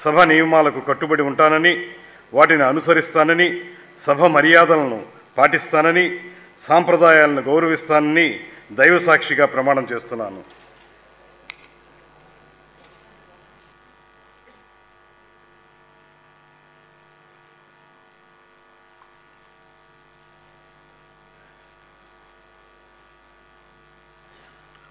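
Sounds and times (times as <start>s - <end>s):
faint electrical mains hum: 0.0s - 24.9s.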